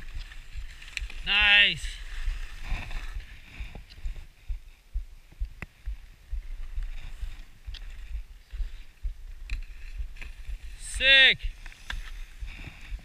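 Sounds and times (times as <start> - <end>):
skis sliding on snow: 0.0 - 4.8, 6.1 - 13.0
wind buffeting microphone: 0.0 - 10.8, 11.4 - 13.0.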